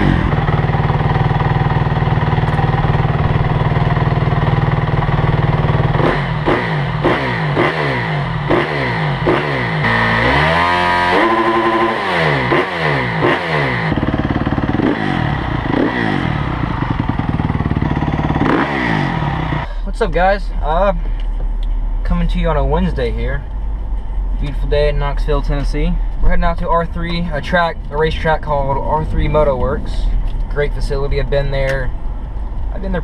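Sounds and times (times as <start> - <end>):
dirt bike engine idling and revving: 0.0 - 33.0.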